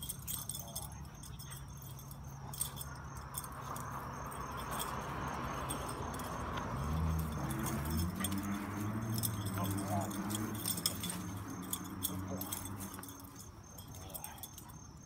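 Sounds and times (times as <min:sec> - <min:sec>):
dog collar tags jingling: 0:00.0 - 0:15.0.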